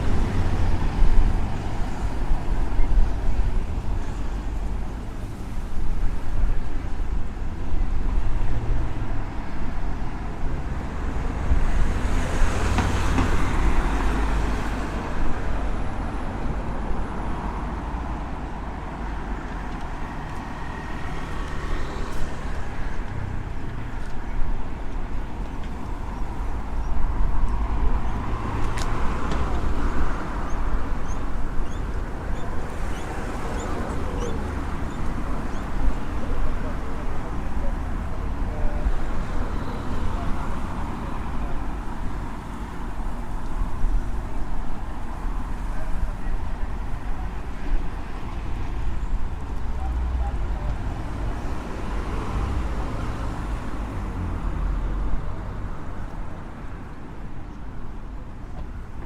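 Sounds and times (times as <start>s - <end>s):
vehicles driving past: 0.0s - 59.0s.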